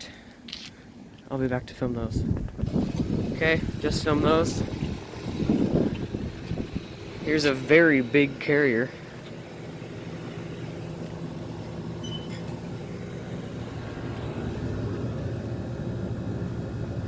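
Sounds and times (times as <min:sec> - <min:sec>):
air conditioner units humming: 0:01.0 - 0:17.0.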